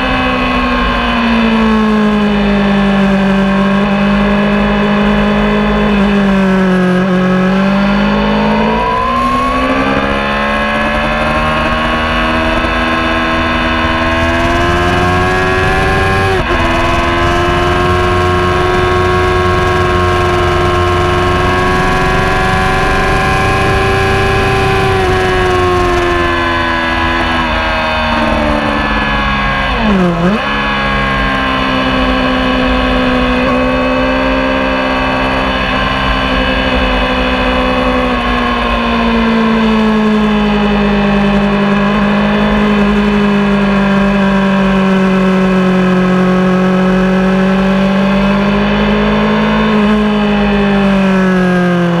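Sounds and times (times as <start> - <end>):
motorcycle engine at high revs: 0.0 - 52.0.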